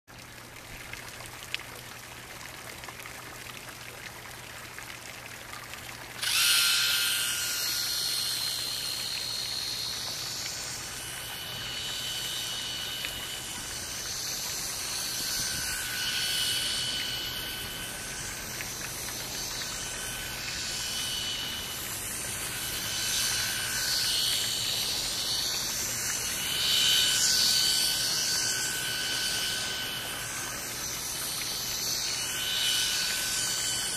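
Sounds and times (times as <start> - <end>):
water trickling: 0.1 - 33.9
model boat motor whine: 3.8 - 33.9.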